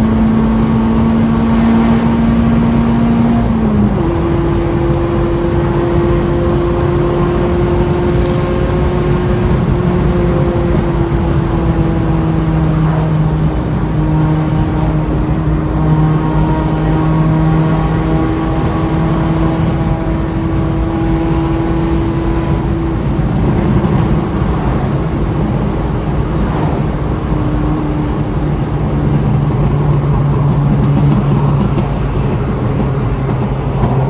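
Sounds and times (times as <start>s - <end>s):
car engine droning: 0.0s - 34.0s.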